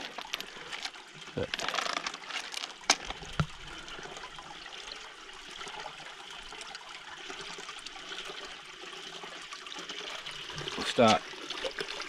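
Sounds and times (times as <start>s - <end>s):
water pouring and splashing in bowl: 0.0s - 12.0s.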